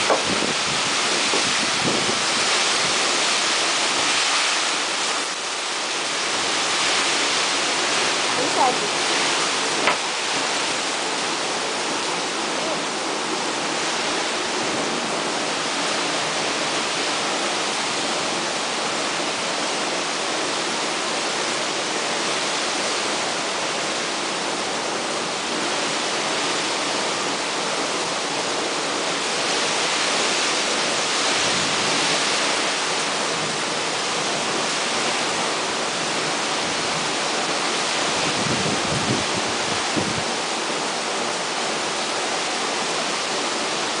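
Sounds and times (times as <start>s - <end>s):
heavy rain pouring: 0.0s - 44.0s
strong wind: 0.0s - 44.0s.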